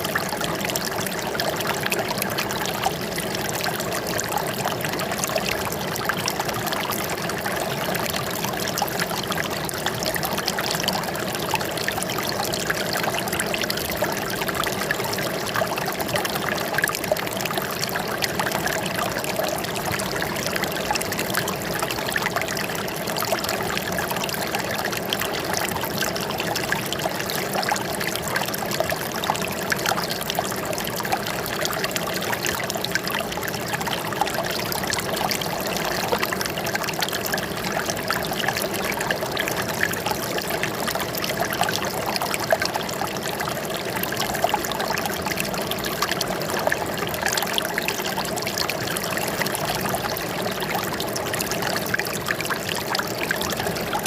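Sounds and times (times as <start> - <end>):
running water trickling and splashing: 0.0 - 54.0.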